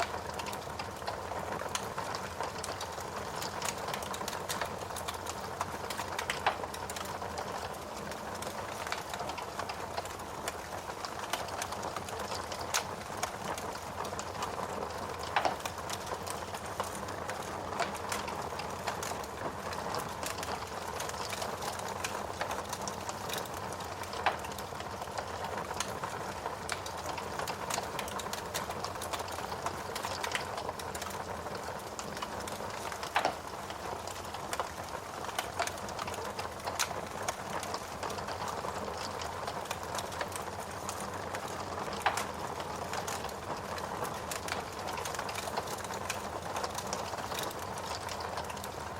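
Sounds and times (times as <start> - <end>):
fire crackling and hissing: 0.0 - 48.9.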